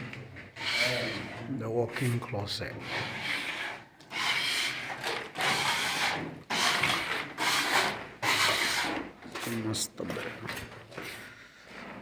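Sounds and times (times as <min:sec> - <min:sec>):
hand tool rasping a board: 0:00.0 - 0:09.7.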